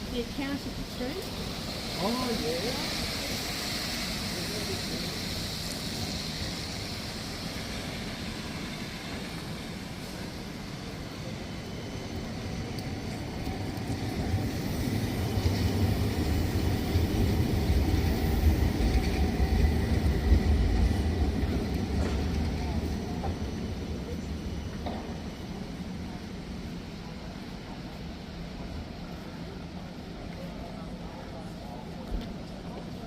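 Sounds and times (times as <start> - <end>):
street noise: 0.0 - 33.0.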